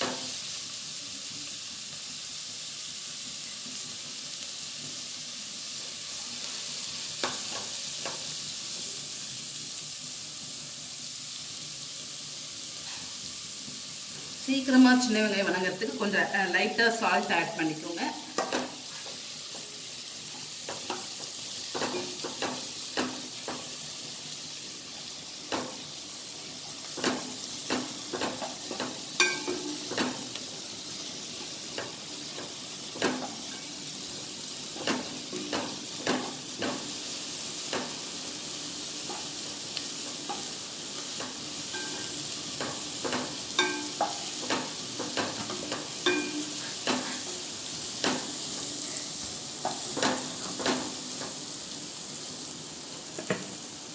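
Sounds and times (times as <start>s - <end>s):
shallots sizzling in oil: 0.0s - 53.9s.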